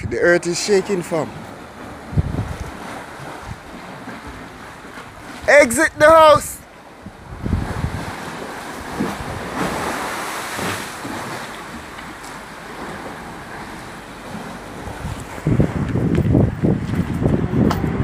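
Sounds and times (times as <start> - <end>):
pool water sloshing: 0.3 - 17.2.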